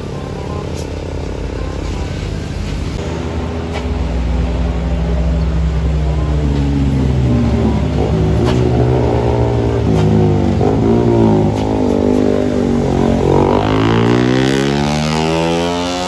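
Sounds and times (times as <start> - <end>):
engine accelerating: 0.0 - 16.0
road traffic engines droning: 0.0 - 16.0.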